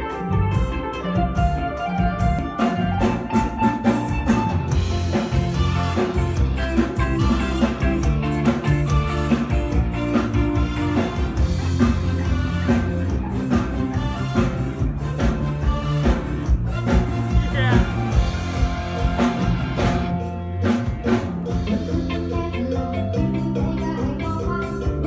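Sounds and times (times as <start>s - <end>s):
bass and guitar: 0.0s - 25.0s
drum kit steady beat: 0.0s - 25.0s.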